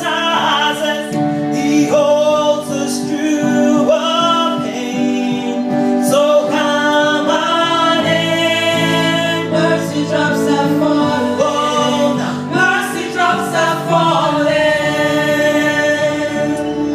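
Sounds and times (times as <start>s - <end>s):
singers performing gospel song: 0.0s - 16.9s
sustained backing chords: 0.0s - 16.9s.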